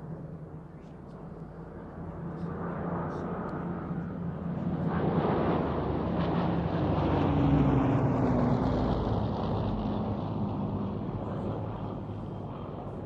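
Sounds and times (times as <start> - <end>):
propeller aircraft flying past: 1.5 - 13.0.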